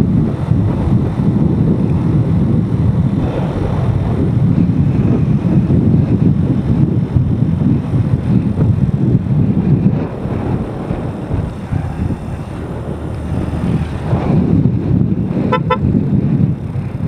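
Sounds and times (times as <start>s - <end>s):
motorcycle engine: 0.0s - 17.0s
road noise: 0.0s - 17.0s
wind buffeting microphone: 0.0s - 17.0s.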